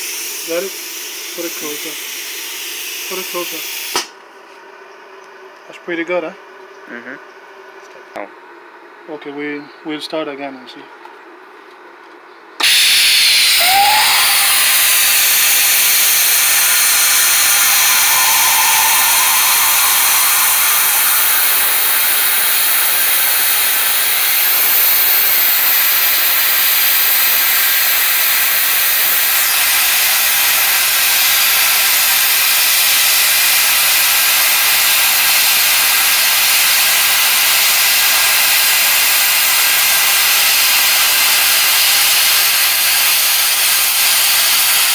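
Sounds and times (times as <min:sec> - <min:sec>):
plasma cutter arc hissing: 0:00.0 - 0:04.1, 0:12.6 - 0:44.9.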